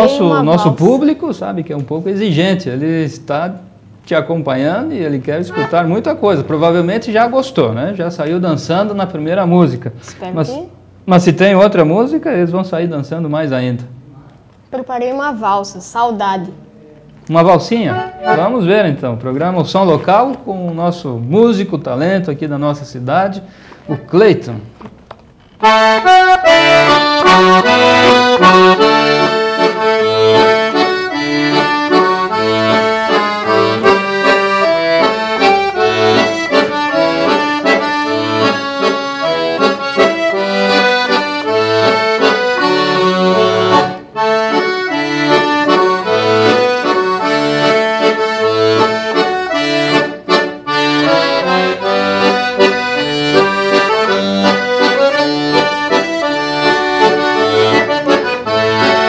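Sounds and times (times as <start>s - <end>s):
accordion waltz: 0.0s - 13.9s, 17.2s - 59.0s.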